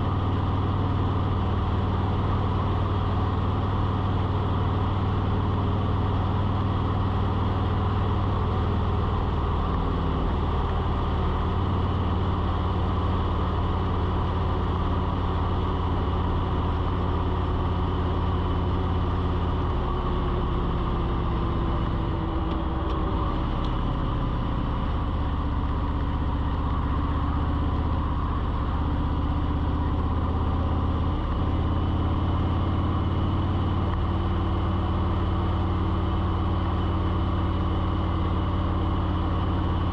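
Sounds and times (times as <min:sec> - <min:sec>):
low engine-like hum: 0:00.0 - 0:39.9.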